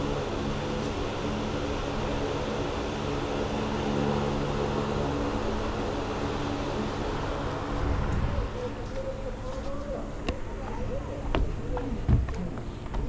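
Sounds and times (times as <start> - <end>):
fan-driven machinery humming: 0.0 - 13.0.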